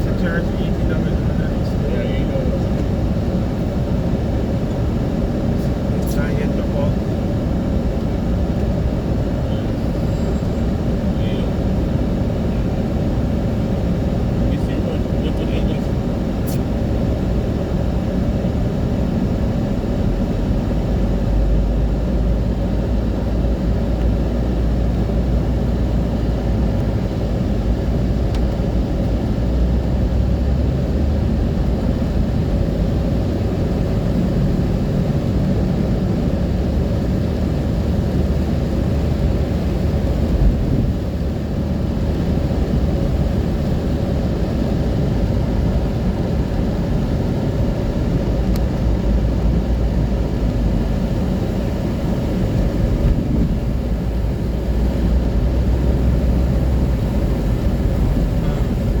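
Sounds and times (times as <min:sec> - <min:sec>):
moving car rumble: 0:00.0 - 0:59.0.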